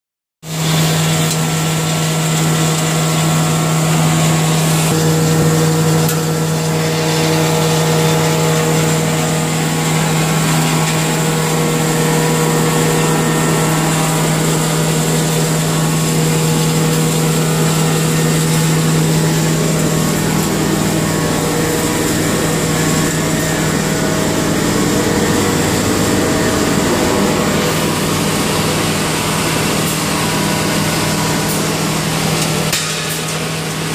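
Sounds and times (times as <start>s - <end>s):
milling machine droning: 0.5s - 33.9s.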